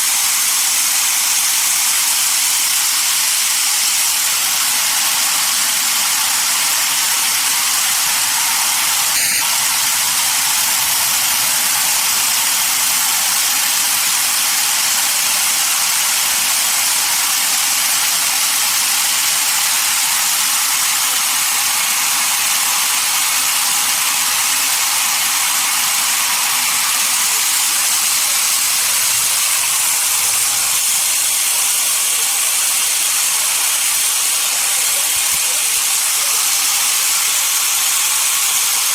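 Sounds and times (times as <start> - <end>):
sawmill machinery hissing: 0.0 - 38.9.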